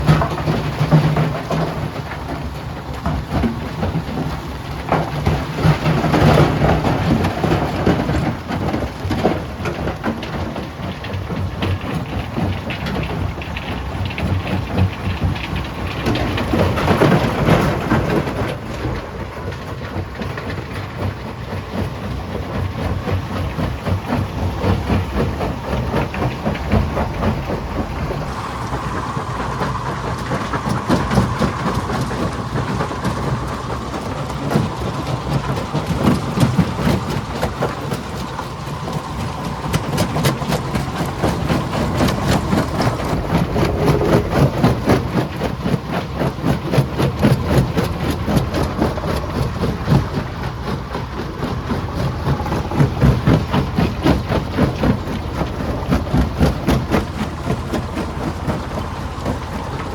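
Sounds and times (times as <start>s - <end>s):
stone crusher rumbling: 0.0s - 59.9s.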